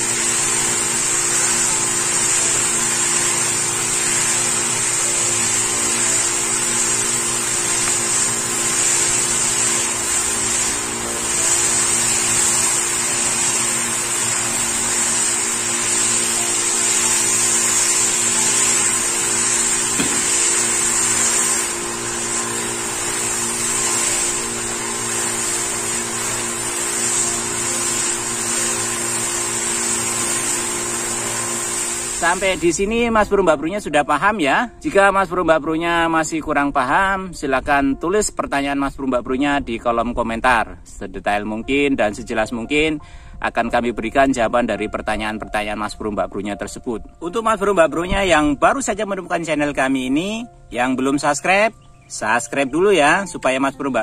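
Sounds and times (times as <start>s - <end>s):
sprayer pump whining: 0.0s - 36.2s, 41.7s - 54.0s
nozzle spraying mist hiss: 0.0s - 37.8s, 40.6s - 54.0s.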